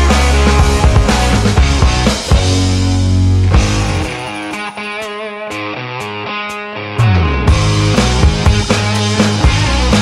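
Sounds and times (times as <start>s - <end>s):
rock music with drums and guitar: 0.0s - 10.0s.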